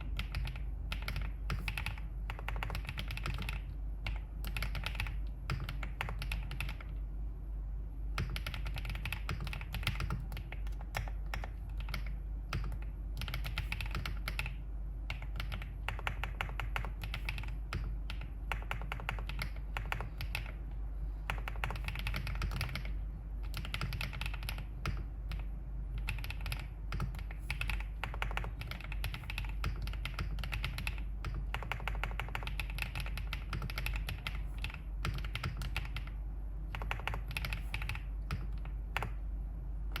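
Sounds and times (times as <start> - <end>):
mechanical keyboard typing: 0.0 - 7.0, 8.2 - 20.6, 21.3 - 39.2.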